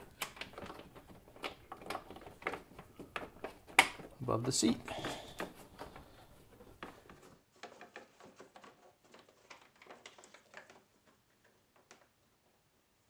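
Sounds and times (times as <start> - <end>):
faint rustling of wiring: 0.0 - 12.9.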